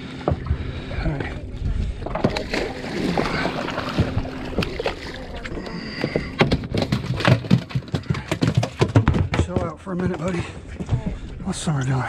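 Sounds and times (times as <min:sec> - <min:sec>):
water splashing against boat: 0:00.0 - 0:11.3
fish flopping against fiberglass: 0:00.2 - 0:11.0.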